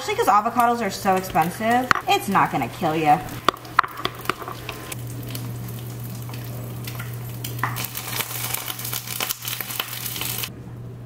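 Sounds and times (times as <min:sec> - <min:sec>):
eggs sizzling in a pan: 0:00.0 - 0:10.5.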